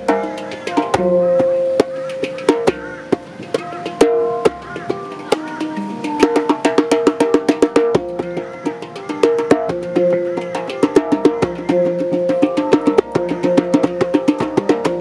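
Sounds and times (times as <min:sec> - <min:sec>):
djembe slaps: 0:00.0 - 0:15.0
handpan bell-like notes: 0:00.0 - 0:15.0.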